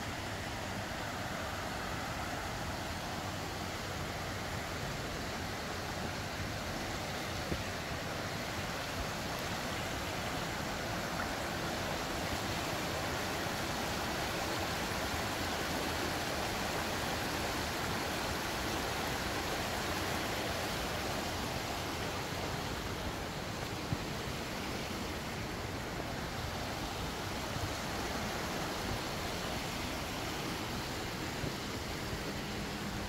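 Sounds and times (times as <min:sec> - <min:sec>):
river rushing over rocks: 0:00.0 - 0:33.0.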